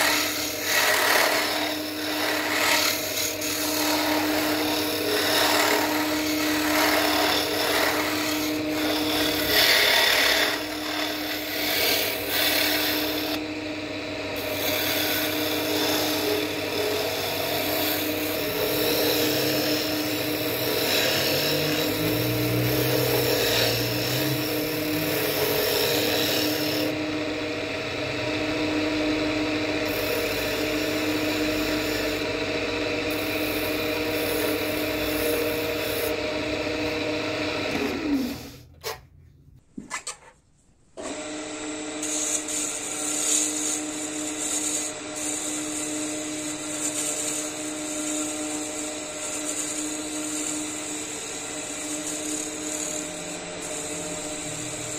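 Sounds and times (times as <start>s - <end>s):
tool scraping spinning wood: 0.0s - 13.5s, 14.2s - 27.0s, 29.1s - 39.1s, 39.8s - 54.9s
wood lathe motor hum: 0.0s - 39.0s, 41.0s - 54.9s.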